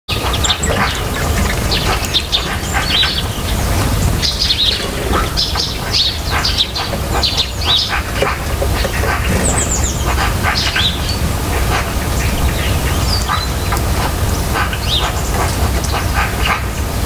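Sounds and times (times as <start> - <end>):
songbirds chirping: 0.1 - 17.0.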